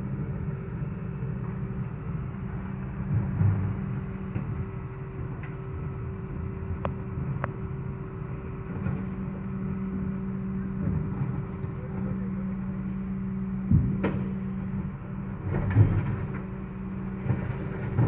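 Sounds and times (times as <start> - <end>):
refuse truck running: 0.0 - 18.0.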